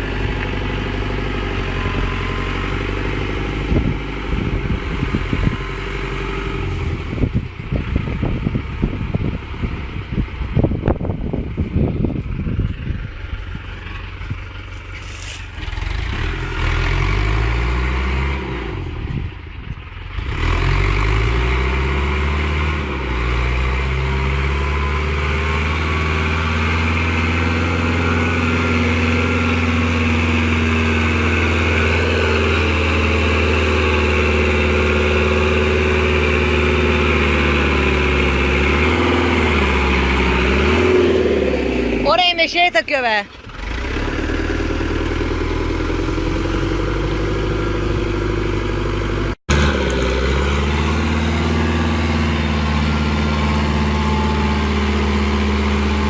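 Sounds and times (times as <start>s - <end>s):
tractor engine revving: 0.0s - 56.0s.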